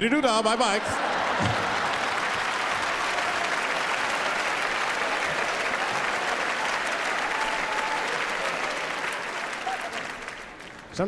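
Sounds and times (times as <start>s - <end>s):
large audience applauding: 0.6s - 11.0s.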